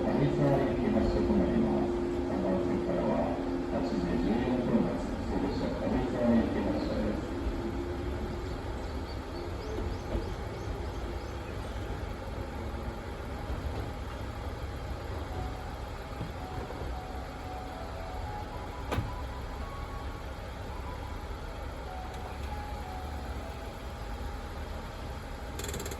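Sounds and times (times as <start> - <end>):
electric train rumbling: 0.0 - 25.9.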